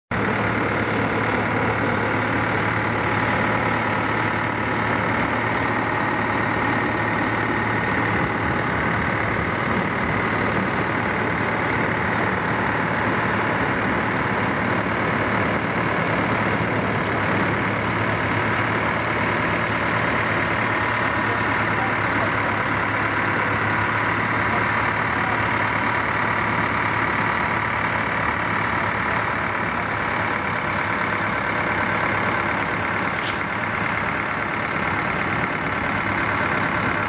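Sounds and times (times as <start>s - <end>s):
heavy diesel engine running: 0.1s - 37.0s.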